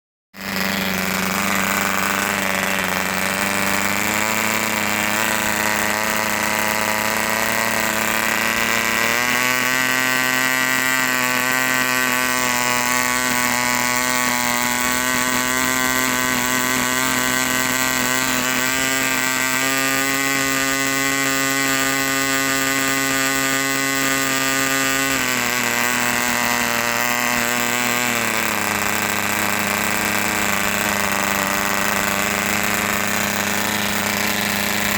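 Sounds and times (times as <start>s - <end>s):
engine running at fast idle: 0.4s - 34.9s.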